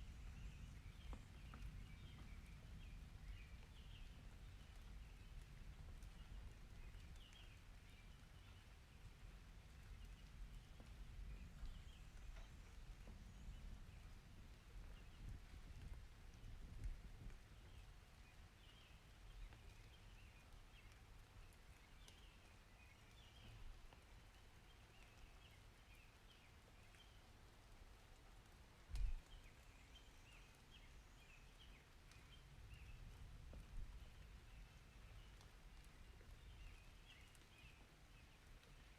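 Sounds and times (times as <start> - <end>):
soft steady hiss: 0.0 - 38.9.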